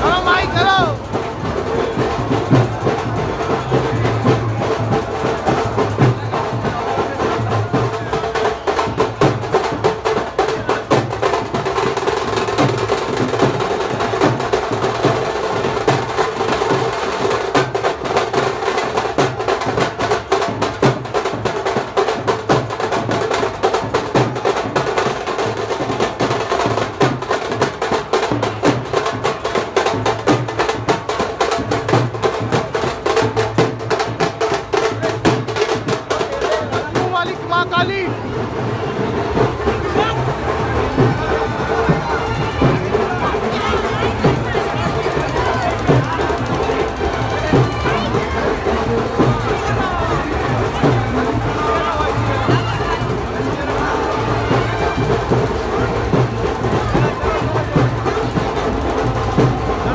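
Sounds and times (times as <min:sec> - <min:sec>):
fast steady drumming: 0:00.0 - 0:59.9.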